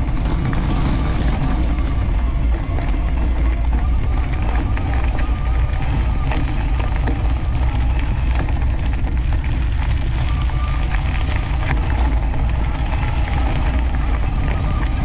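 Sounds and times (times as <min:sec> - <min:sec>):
bike tyres crunching on gravel: 0:00.0 - 0:15.0
wind buffeting microphone: 0:00.0 - 0:15.0.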